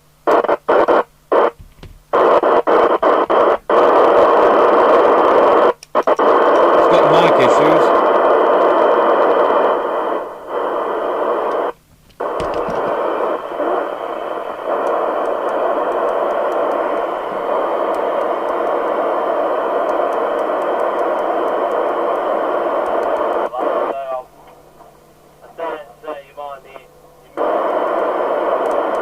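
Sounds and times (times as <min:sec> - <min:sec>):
radio receiver noise: 0:00.3 - 0:29.0.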